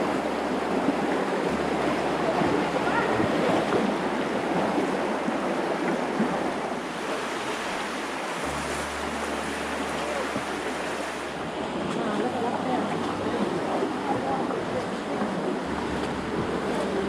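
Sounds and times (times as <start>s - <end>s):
river water rushing: 0.0s - 17.0s
wind on microphone: 0.0s - 17.0s.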